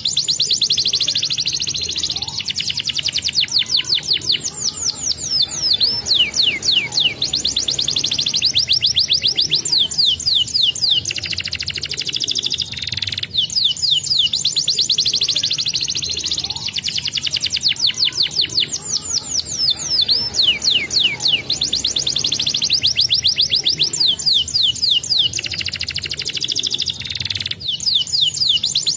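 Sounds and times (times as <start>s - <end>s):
canary singing: 0.0s - 28.9s.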